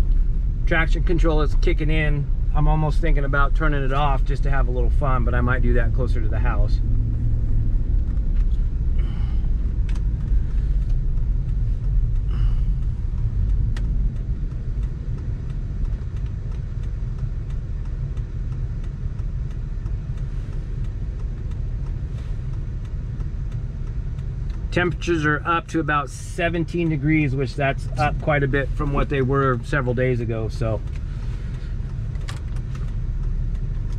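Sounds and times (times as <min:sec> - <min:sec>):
vehicle engine and tyres rumbling: 0:00.0 - 0:33.9.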